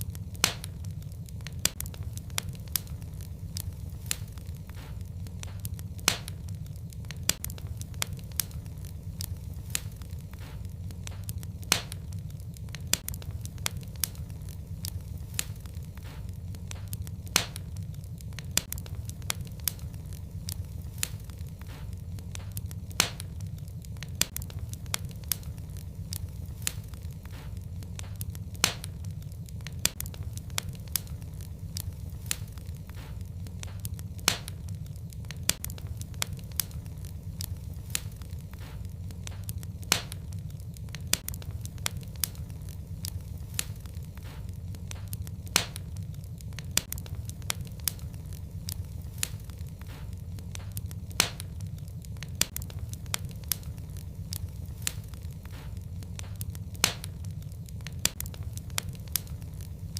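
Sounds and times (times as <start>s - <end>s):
fire flames rumbling: 0.0s - 59.9s
wood fire crackling and popping: 0.0s - 59.9s.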